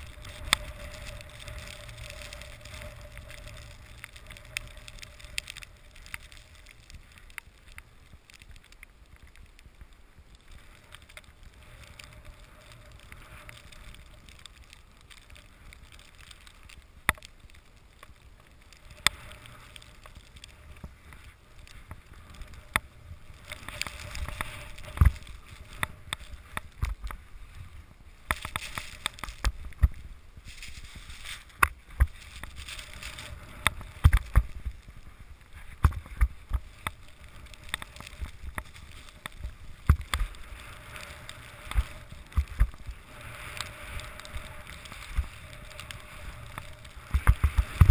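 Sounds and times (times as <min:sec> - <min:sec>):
skis sliding through powder snow: 0:00.0 - 0:47.9.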